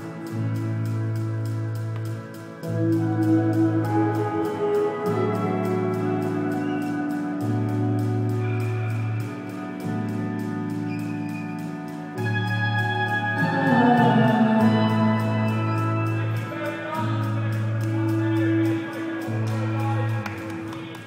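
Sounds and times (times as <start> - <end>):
held bass notes: 0.0 - 21.0
live band music: 0.0 - 21.0.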